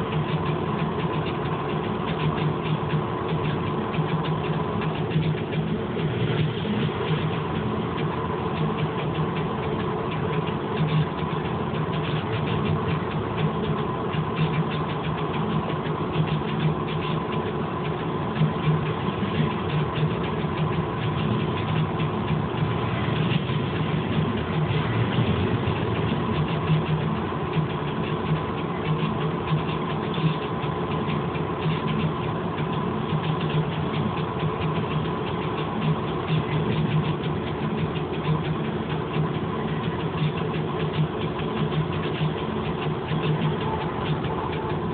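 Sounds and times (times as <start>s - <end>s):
diesel locomotive engine running: 0.0s - 44.9s.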